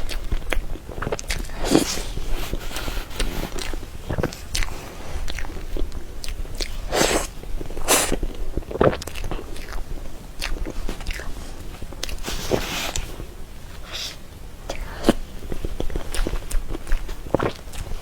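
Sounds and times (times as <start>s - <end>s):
wet mouth smacks and chewing: 0.0s - 11.3s, 12.0s - 12.2s, 14.7s - 18.0s.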